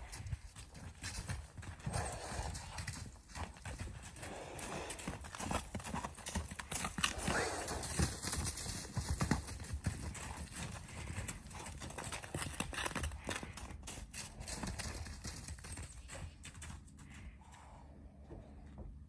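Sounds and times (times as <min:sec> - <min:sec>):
horse hooves on packed snow: 0:00.0 - 0:18.6.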